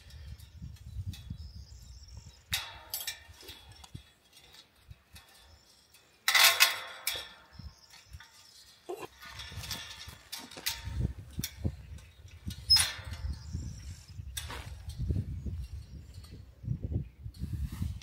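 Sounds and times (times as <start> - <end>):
steel wire scraping and clinking: 0.0 - 18.0.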